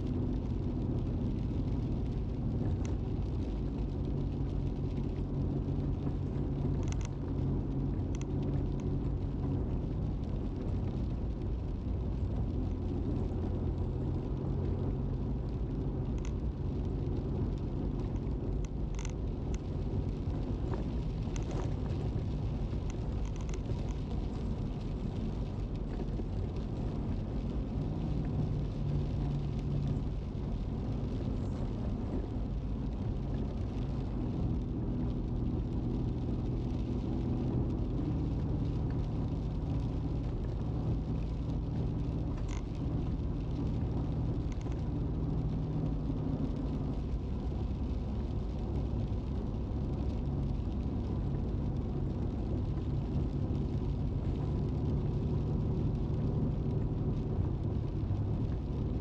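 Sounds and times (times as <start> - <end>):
car engine and tyre drone: 0.0 - 59.0
faint ticks: 5.8 - 58.9.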